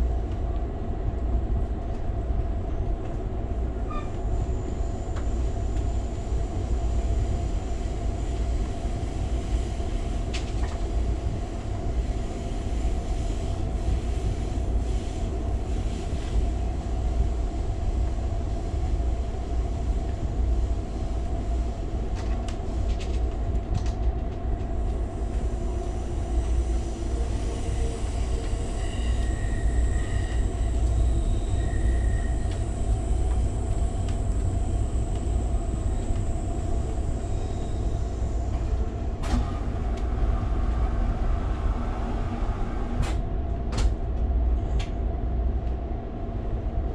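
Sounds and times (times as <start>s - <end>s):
train rumble: 0.0s - 46.9s.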